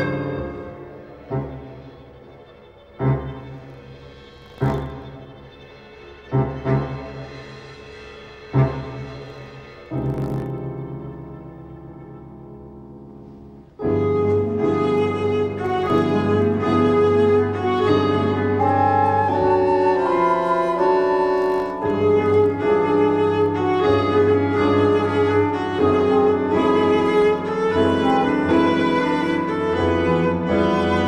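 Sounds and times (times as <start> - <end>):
strings and piano film score: 0.0 - 31.0.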